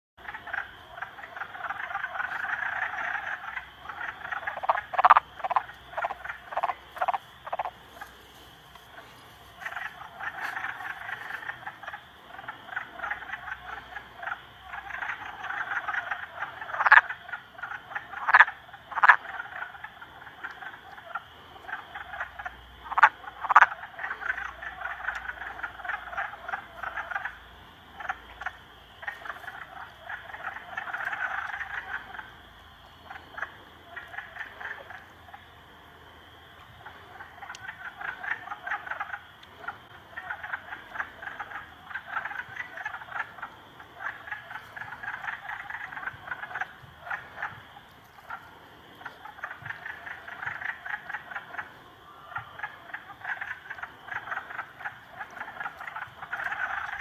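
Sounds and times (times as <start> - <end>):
chorus of frogs croaking: 0.2 - 57.0
close frog calls: 0.2 - 57.0.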